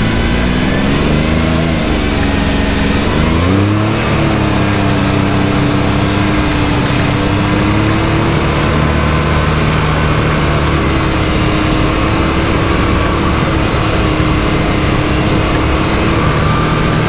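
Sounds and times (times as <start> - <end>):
constant rush of noise: 0.0 - 17.0
engine revving: 0.0 - 17.0.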